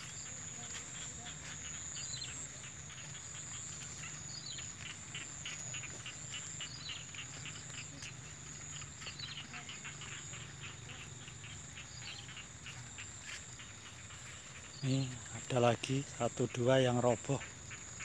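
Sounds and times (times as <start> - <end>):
insects chirping: 0.0 - 18.0
insects trilling: 0.0 - 18.0
short insect call: 0.0 - 18.0.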